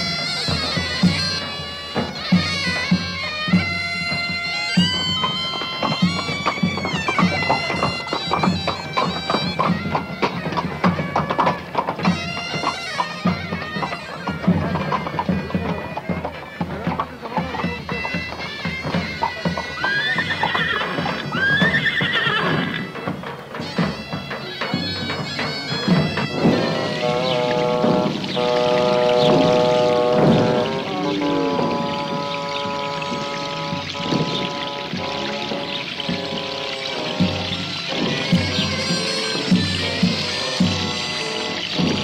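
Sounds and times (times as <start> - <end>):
high wavering calls: 0.0 - 11.3, 12.0 - 42.0
drum beats: 0.0 - 42.0
reed-pipe folk music: 0.0 - 42.0.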